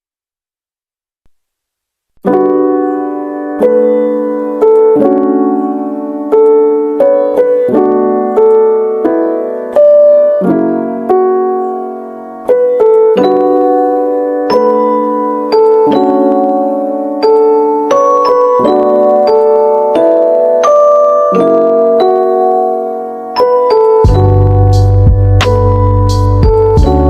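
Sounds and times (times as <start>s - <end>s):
slow piano chords: 2.2s - 27.0s.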